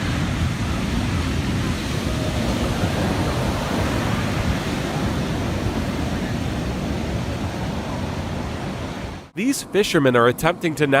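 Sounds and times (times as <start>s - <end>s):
heavy surf: 0.0s - 11.0s
wind: 0.0s - 11.0s.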